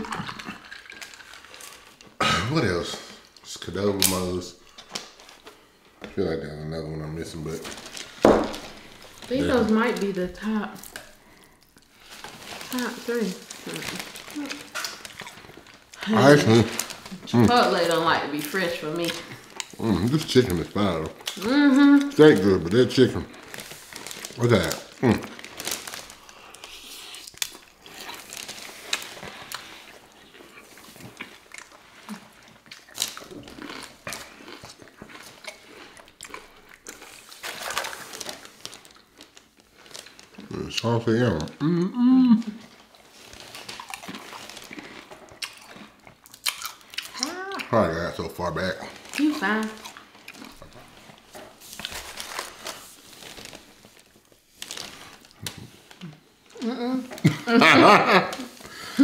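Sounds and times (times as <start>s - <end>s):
chips crunching: 0.0s - 5.6s, 7.1s - 41.6s, 42.5s - 59.0s.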